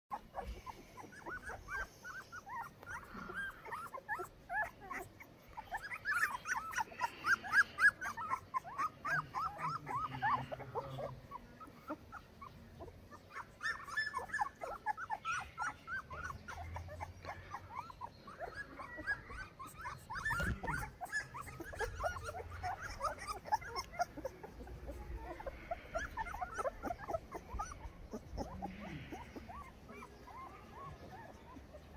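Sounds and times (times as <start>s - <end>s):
puppies whimpering and squealing: 0.1s - 31.9s.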